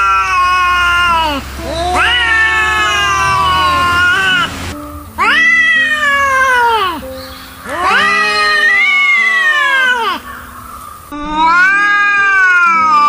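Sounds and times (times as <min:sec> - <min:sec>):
angry cat yowling: 0:00.0 - 0:04.6, 0:05.2 - 0:10.4, 0:11.3 - 0:13.0
low background music: 0:01.3 - 0:13.0.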